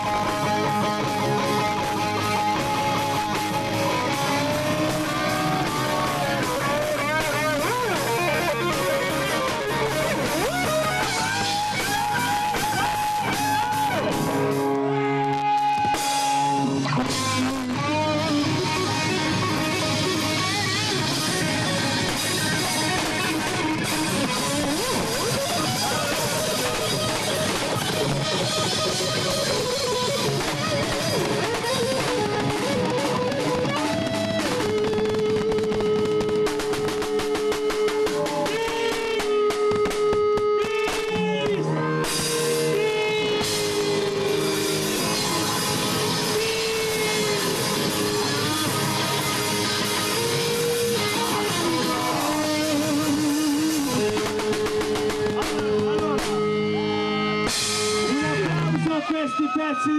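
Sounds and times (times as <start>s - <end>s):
drum kit: 0.0s - 59.5s
live rock band playing: 0.0s - 59.9s.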